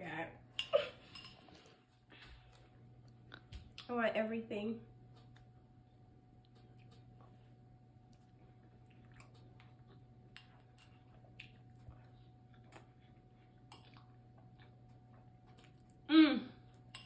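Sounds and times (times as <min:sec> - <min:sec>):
low steady hum: 0:00.0 - 0:17.0
soft chewing: 0:00.6 - 0:03.9, 0:04.9 - 0:17.0.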